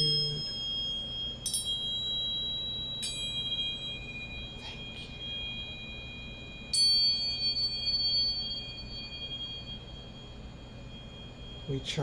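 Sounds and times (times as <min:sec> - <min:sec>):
metal chime ringing: 0:00.0 - 0:12.0.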